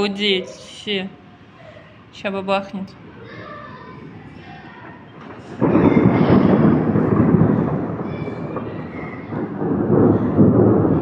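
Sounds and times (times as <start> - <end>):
thunder clap and rumble: 0.0 - 11.0.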